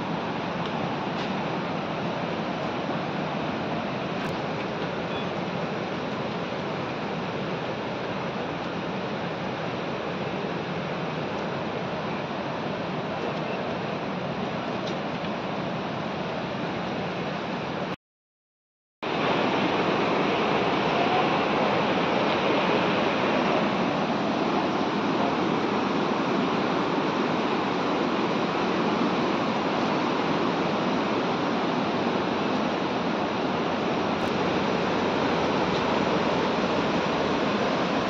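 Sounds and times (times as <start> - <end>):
river rushing: 0.0 - 18.0, 19.0 - 38.0.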